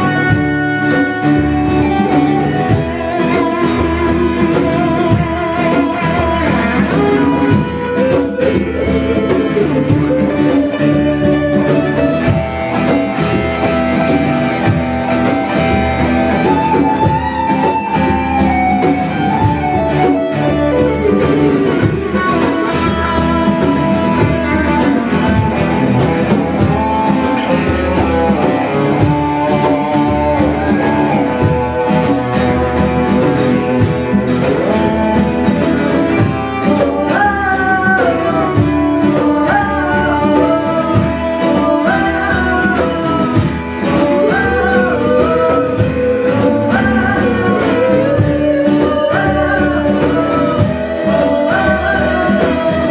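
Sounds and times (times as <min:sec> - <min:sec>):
live band playing instrumental: 0:00.0 - 0:52.9.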